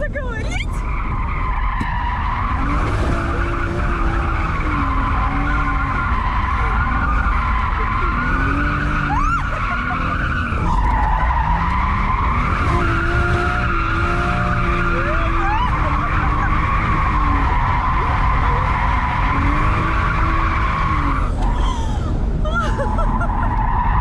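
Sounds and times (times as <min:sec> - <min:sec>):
car engine running hard: 0:00.0 - 0:24.0
tyres squealing: 0:00.6 - 0:21.8.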